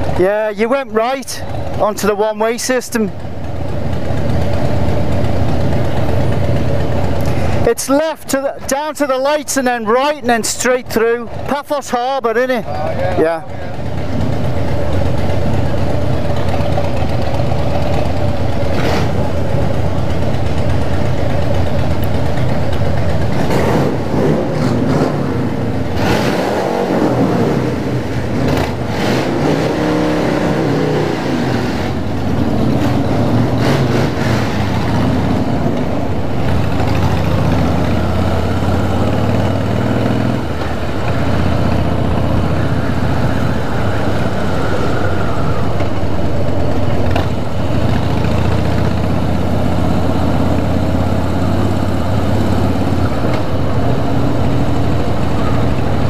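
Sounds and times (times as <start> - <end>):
motorcycle engine running: 1.4 - 7.7, 12.6 - 56.0.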